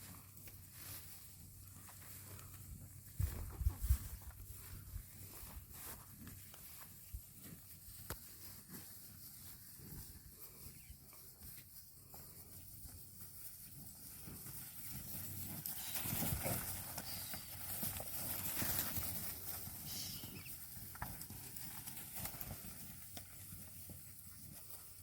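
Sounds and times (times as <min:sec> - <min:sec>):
livestock hoofbeats: 0:00.0 - 0:25.0.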